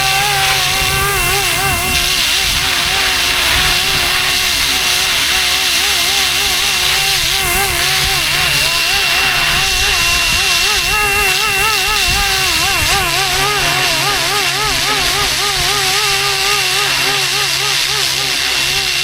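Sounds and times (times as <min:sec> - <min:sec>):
rc helicopter rotor whine: 0:00.0 - 0:19.0
steady high tone: 0:00.0 - 0:19.0
wind noise: 0:00.0 - 0:19.0.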